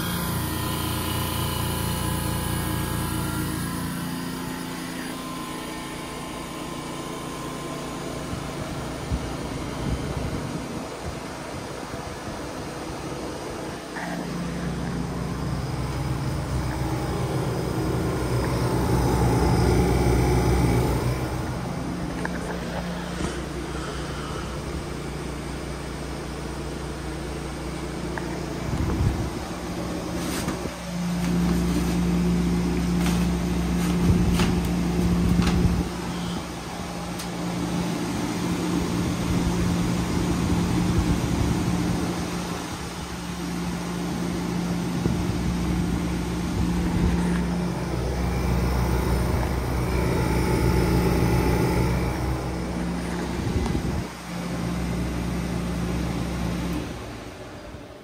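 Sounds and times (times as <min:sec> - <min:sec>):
air conditioner humming: 0:00.0 - 0:58.0.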